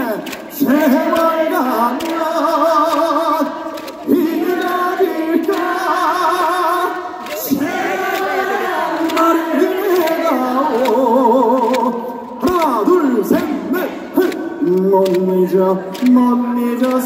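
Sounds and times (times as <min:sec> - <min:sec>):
crowd singing along: 0:00.0 - 0:17.0
man singing through pa: 0:00.0 - 0:17.0.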